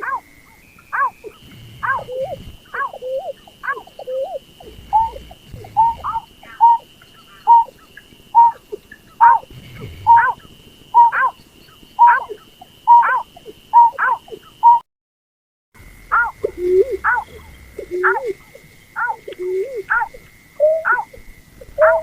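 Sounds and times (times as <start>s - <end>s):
snipe lure calls: 0.8s - 14.8s, 16.1s - 22.0s.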